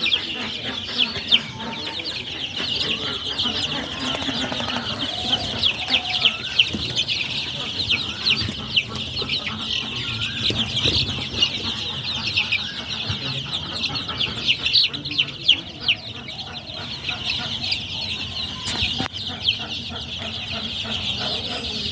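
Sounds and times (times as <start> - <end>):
low clucks: 0.0 - 17.7
chicks peeping: 0.0 - 21.9.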